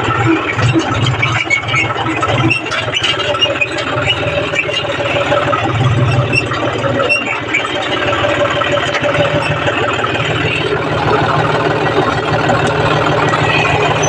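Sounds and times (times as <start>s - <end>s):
tractor diesel engine running: 0.0s - 14.0s
short high squeaks: 0.3s - 11.6s.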